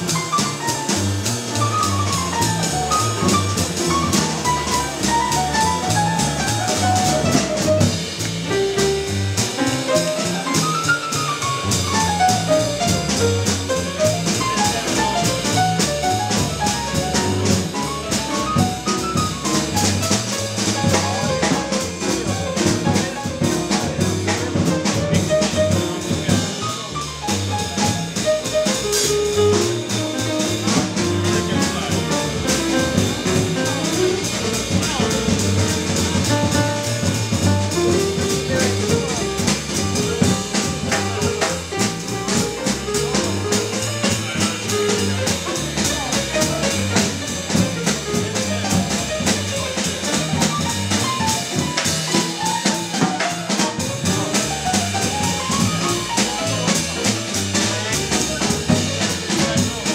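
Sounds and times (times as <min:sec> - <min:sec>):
busy drumming with cymbals: 0:00.0 - 0:59.9
jazz piano runs: 0:00.0 - 0:59.9.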